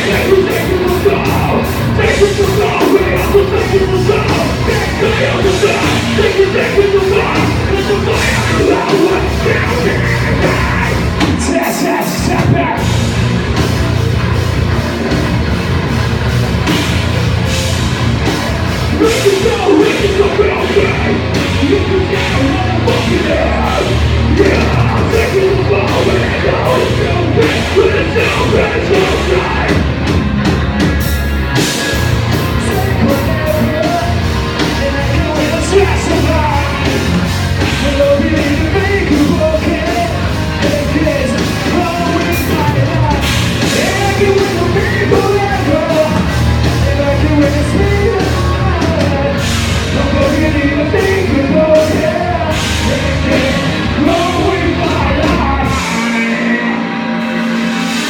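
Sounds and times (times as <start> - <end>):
person singing: 0.0 - 13.0, 18.8 - 30.1, 31.8 - 58.0
bass: 0.0 - 58.0
distorted electric guitars: 0.0 - 58.0
drums: 0.0 - 58.0.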